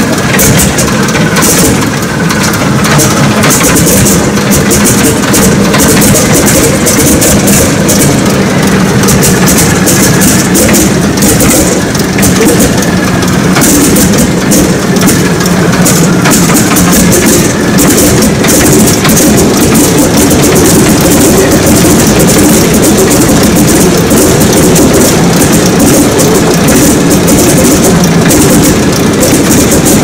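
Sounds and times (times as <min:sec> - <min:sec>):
propeller: 0:00.0 - 0:30.0
radial aircraft engine running: 0:00.0 - 0:30.0.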